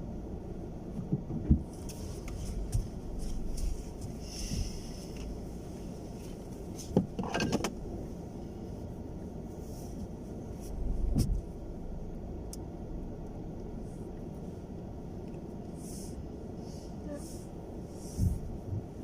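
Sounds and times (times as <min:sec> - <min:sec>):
car driving low rumble: 0:00.0 - 0:19.0.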